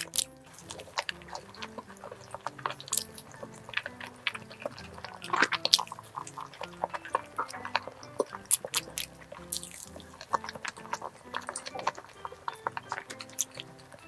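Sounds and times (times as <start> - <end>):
soft background music: 0.0 - 14.0
wet squishy chewing: 0.0 - 14.0.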